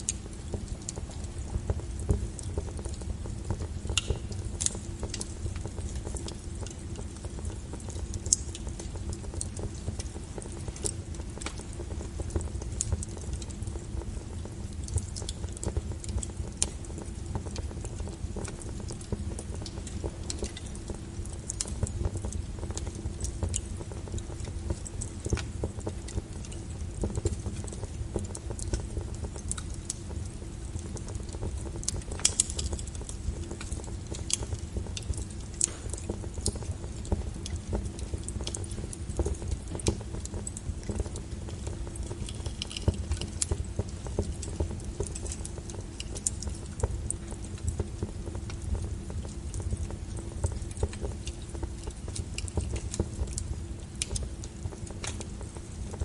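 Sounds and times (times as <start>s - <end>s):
firewood crackling and popping: 0.0s - 56.0s
low rumble of flames: 0.0s - 56.0s.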